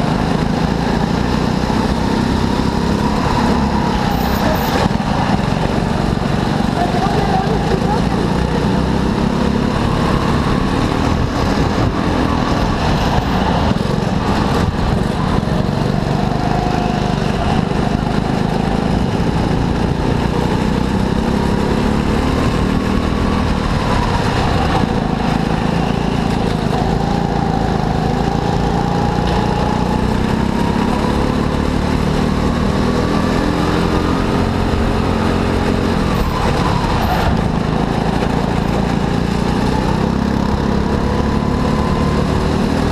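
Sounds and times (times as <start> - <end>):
go-kart engine running: 0.0 - 42.9.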